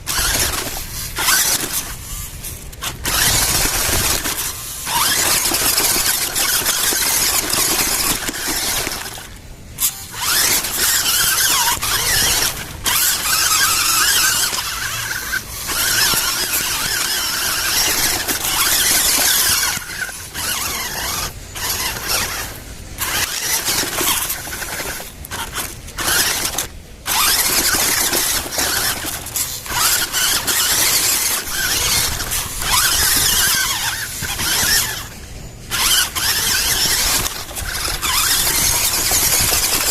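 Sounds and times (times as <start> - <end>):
electric toy motor whining: 0.0 - 39.9.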